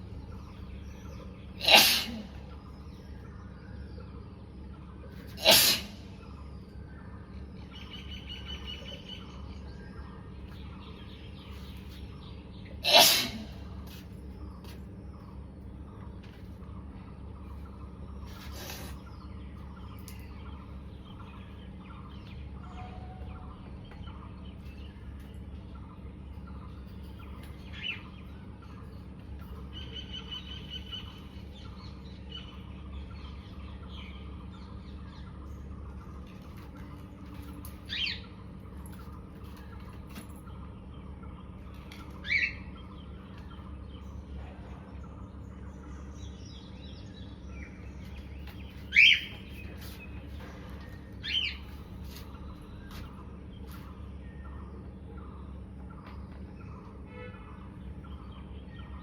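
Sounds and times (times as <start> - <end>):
bird chirping: 0.0 - 59.0
steady low hum: 0.0 - 59.0.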